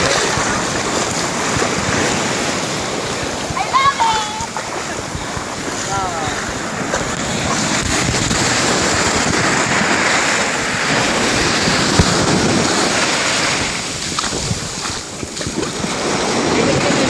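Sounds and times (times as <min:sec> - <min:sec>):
sea water splashing: 0:00.0 - 0:17.0
wind on microphone: 0:00.0 - 0:17.0.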